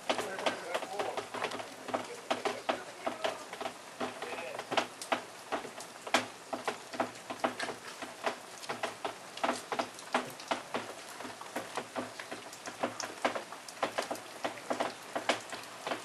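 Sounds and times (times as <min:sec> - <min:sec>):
sleet ticking on leaves: 0:00.0 - 0:16.0
soft steady hiss of sleet: 0:00.0 - 0:16.0.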